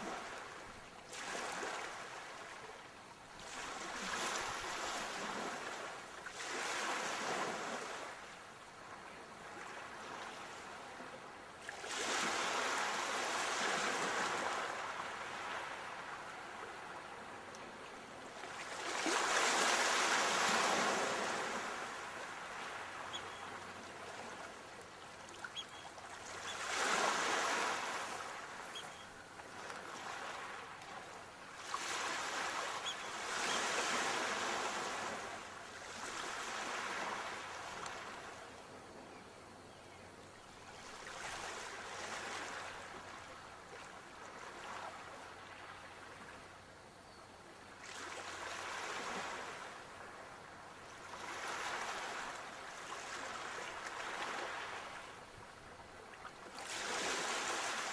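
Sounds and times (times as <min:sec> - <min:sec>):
sea waves breaking on shore: 0:00.0 - 0:38.7, 0:40.6 - 0:46.5, 0:47.8 - 0:57.9.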